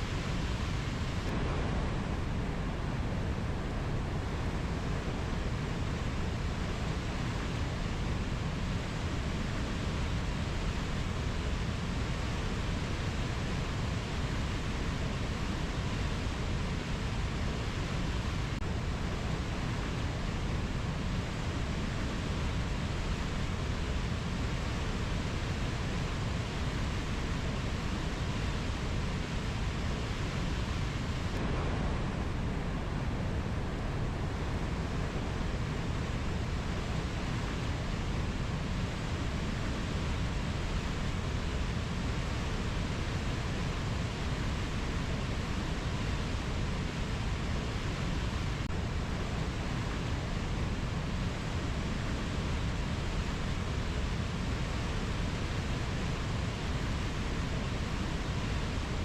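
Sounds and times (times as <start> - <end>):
rainforest rushing noise: 0.0 - 59.0.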